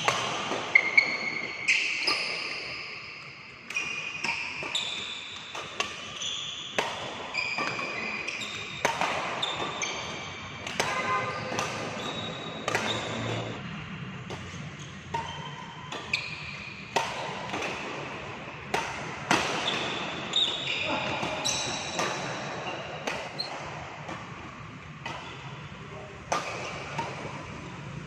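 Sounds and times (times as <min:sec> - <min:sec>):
shoes squeaking on court floor: 0:00.0 - 0:13.6, 0:14.3 - 0:24.4, 0:25.0 - 0:25.7
rackets hitting shuttlecock: 0:00.0 - 0:28.0.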